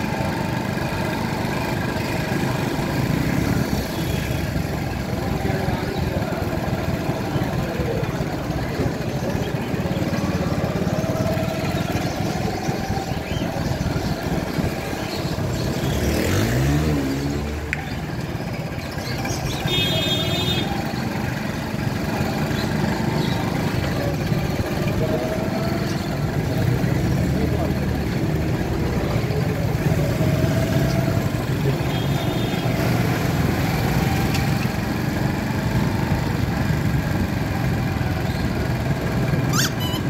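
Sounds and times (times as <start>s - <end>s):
engine revving: 0.0s - 40.0s
motorcycle engine running: 0.0s - 40.0s
street traffic: 0.0s - 40.0s.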